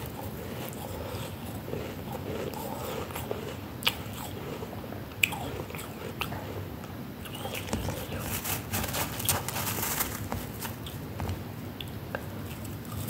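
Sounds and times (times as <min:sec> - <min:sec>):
chewing crunchy frost: 0:00.0 - 0:11.0.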